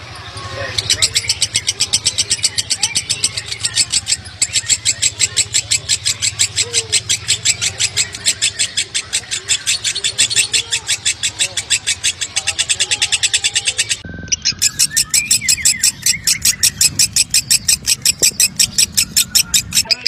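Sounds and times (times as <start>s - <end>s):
lovebird chattering: 0.2s - 20.0s.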